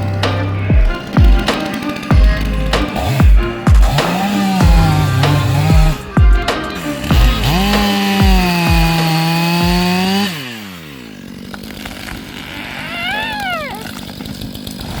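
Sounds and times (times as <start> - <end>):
chainsaw running at full throttle: 0.0 - 15.0.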